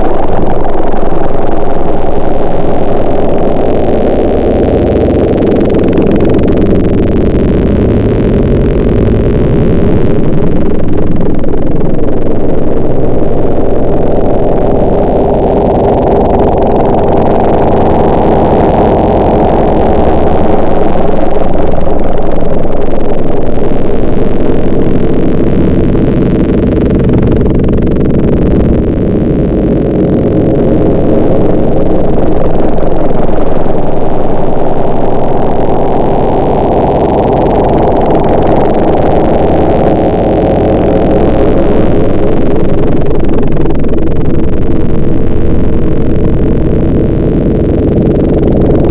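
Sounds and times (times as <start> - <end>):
muffled engine running: 0.0 - 48.9.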